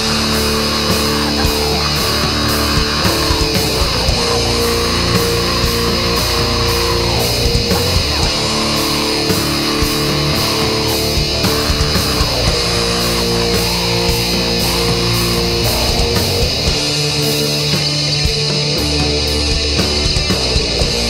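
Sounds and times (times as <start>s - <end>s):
distorted electric guitars: 0.0s - 21.0s
drums with cymbal hits: 0.0s - 21.0s.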